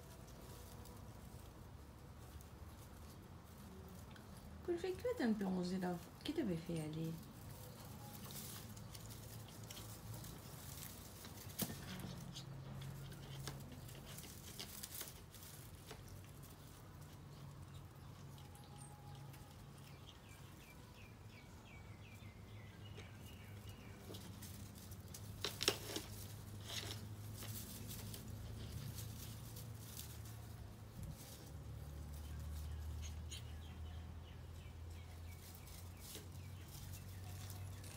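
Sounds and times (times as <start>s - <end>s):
grass rustling: 0.0s - 37.9s.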